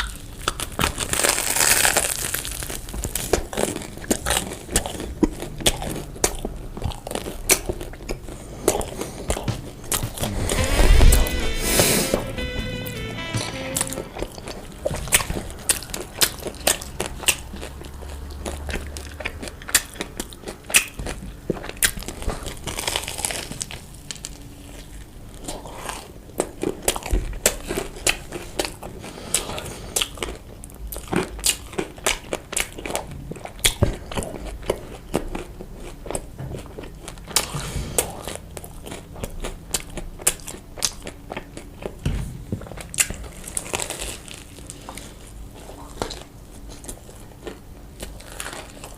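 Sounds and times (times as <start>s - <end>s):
chewing and biting food: 0.0s - 10.2s, 16.3s - 23.4s, 25.4s - 42.0s, 42.6s - 48.9s.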